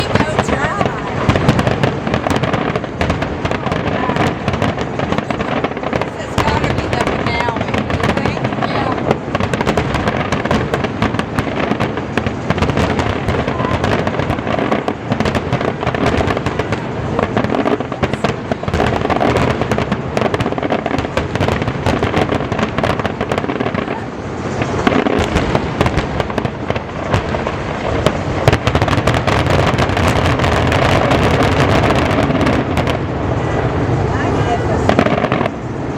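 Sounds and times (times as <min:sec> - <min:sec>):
fireworks bursting and crackling: 0:00.0 - 0:35.9.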